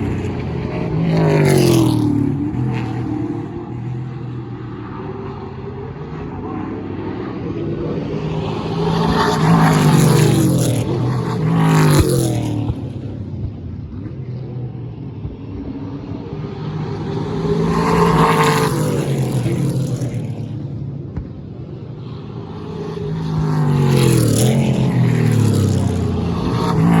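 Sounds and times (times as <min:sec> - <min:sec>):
car engines revving past: 0:00.0 - 0:27.0.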